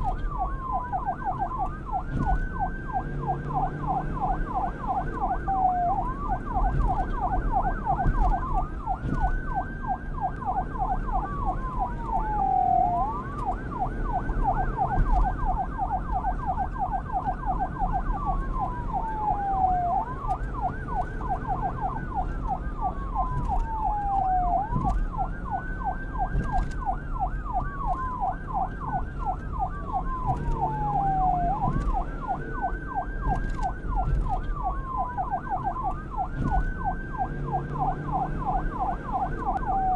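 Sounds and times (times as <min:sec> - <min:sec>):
police siren fast yelp: 0:00.0 - 0:39.9
siren wail rising and falling: 0:00.0 - 0:39.9.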